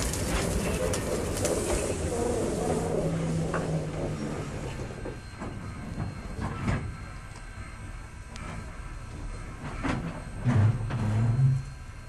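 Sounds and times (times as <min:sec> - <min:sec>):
train rolling slowly: 0:00.0 - 0:12.0.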